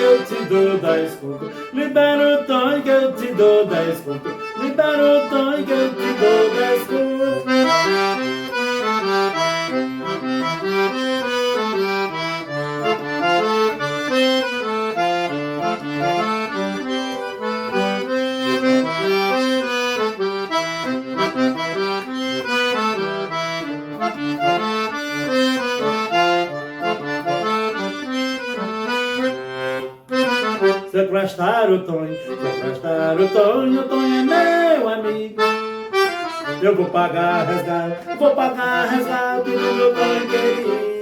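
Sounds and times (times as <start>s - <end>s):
accordion playing lively folk music: 0.0s - 41.0s.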